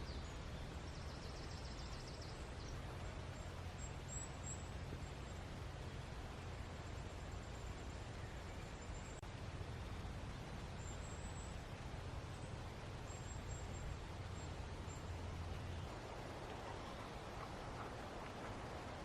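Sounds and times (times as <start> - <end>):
even hiss with low rumble: 0.0 - 19.0.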